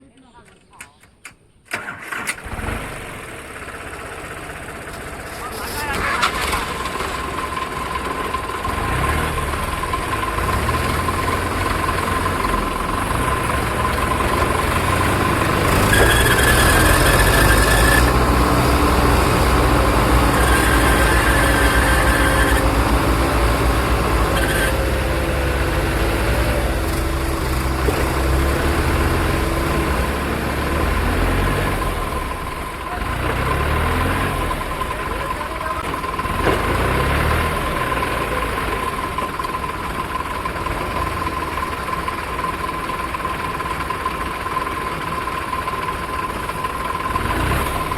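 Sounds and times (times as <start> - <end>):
diesel tractor engine running: 1.7 - 47.9.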